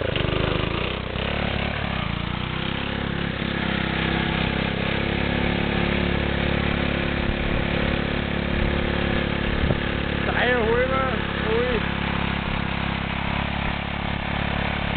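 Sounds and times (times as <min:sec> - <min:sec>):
lawnmower engine at full throttle: 0:00.0 - 0:14.9.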